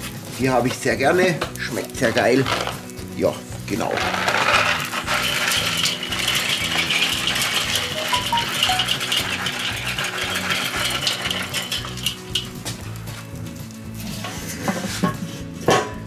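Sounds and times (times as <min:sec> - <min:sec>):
pellets clicking onto charcoal: 0:00.0 - 0:15.9.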